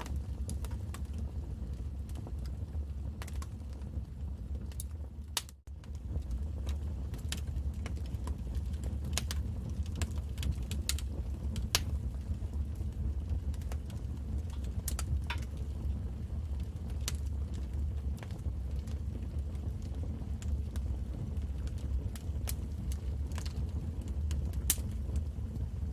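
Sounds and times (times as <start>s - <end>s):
fire crackling and popping: 0.0s - 25.9s
low rumble of flames: 0.0s - 25.9s.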